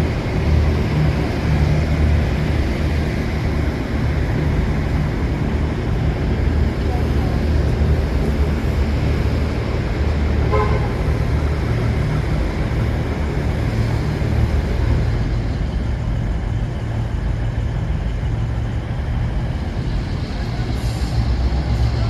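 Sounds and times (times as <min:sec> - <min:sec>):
locomotive engine humming: 0:00.0 - 0:22.0.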